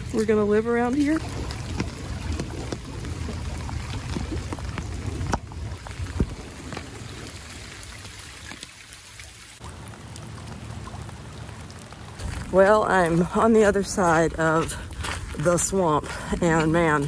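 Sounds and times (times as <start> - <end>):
water sloshing while wading: 0.0 - 17.0.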